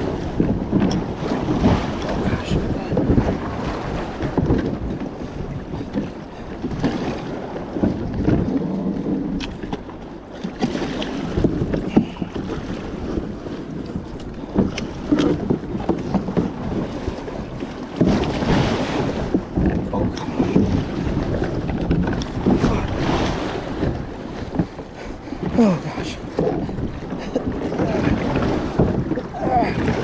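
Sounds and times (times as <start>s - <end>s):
waves slapping against kayak: 0.0s - 30.0s
wind buffeting microphone: 0.0s - 30.0s.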